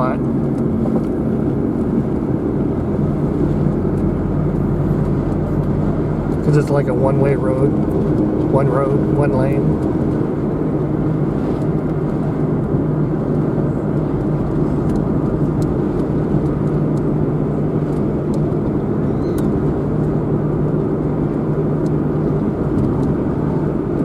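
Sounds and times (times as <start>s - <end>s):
car engine hum: 0.0s - 24.0s
road noise: 0.0s - 24.0s.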